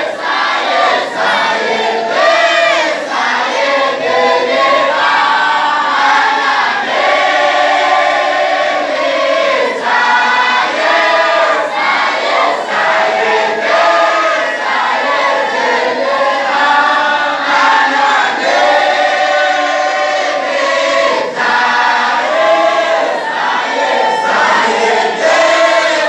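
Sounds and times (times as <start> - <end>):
men and boys chanting in unison: 0.0 - 26.0.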